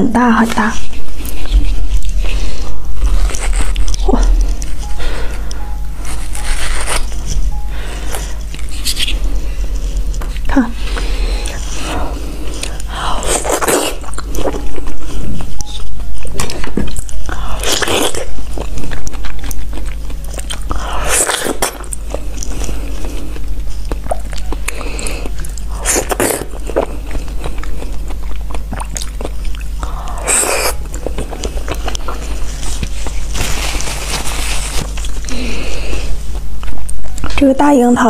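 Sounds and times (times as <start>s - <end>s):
biting and chewing mango: 0.8s - 37.3s.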